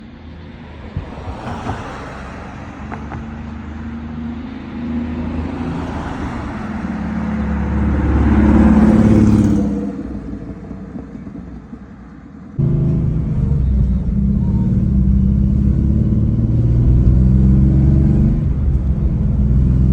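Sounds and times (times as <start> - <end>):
car driving past: 1.0 - 10.7, 12.6 - 19.9.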